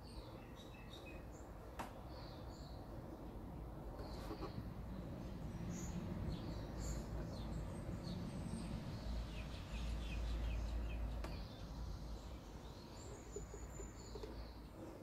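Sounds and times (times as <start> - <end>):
low steady background rumble: 0.0 - 15.0.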